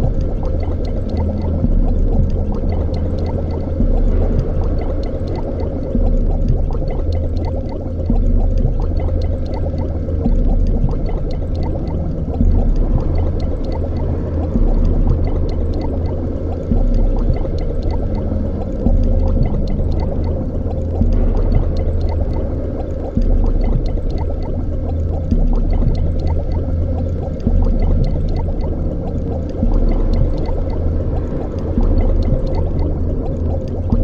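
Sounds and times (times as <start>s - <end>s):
deep machine hum: 0.0s - 34.0s
liquid bubbling in a tank: 0.0s - 34.0s.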